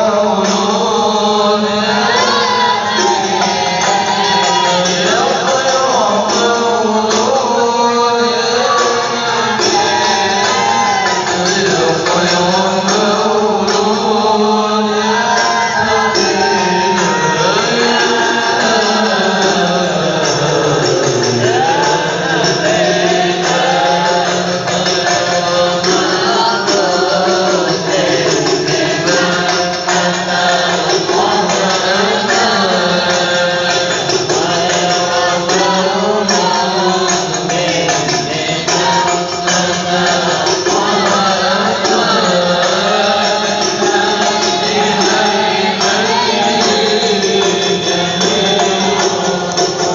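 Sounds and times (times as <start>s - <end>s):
frame drums beating: 0.0s - 49.9s
men chanting in unison: 0.0s - 49.9s.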